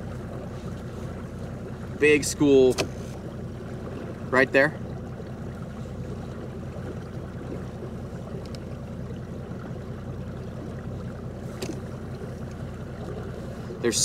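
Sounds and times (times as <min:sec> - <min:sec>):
boat motor rumble: 0:00.0 - 0:14.0
water washing along hull: 0:00.0 - 0:14.0.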